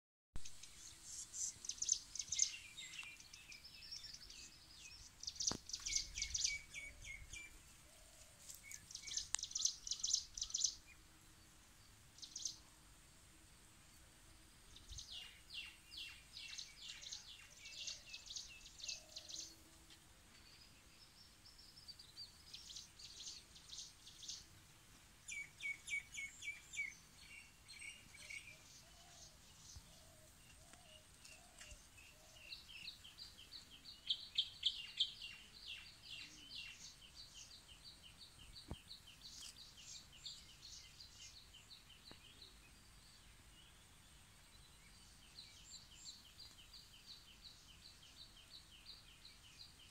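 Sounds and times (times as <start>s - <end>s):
birds singing high chirps: 0.4s - 12.8s, 14.6s - 49.9s.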